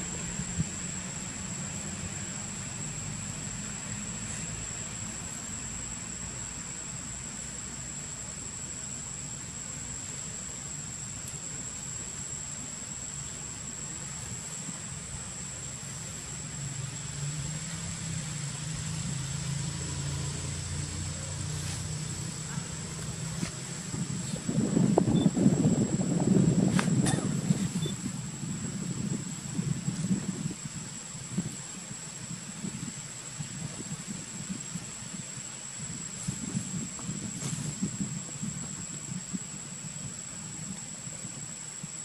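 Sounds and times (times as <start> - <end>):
low engine hum: 0.0 - 42.0.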